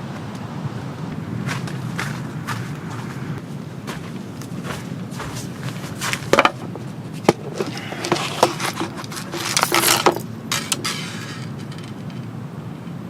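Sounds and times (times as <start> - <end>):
camping gear knocking and scraping: 1.5 - 12.3.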